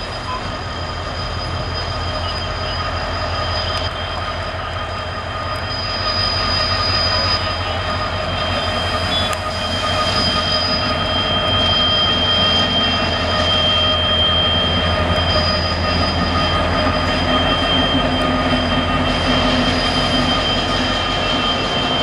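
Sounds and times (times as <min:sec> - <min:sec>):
train wheels squealing on rails: 0:00.0 - 0:22.0.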